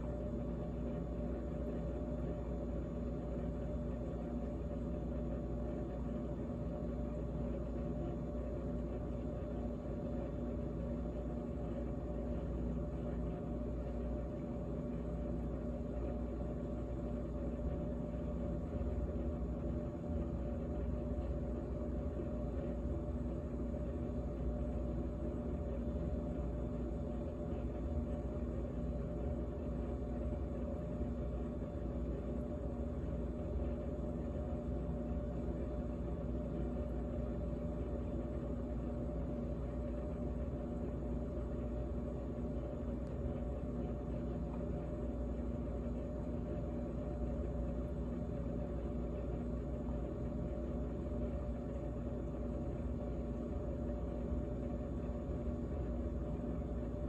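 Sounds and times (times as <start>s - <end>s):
refrigerator hum: 0.0s - 57.0s.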